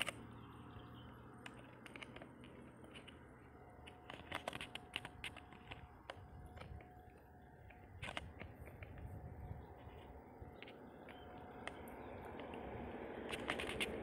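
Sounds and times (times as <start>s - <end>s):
faint steady tone: 0.0s - 14.0s.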